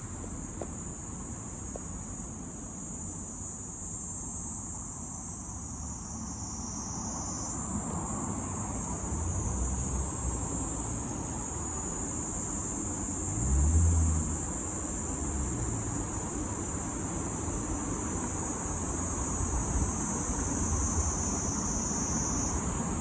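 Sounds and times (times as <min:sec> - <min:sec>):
cicada buzzing: 0:00.0 - 0:23.0.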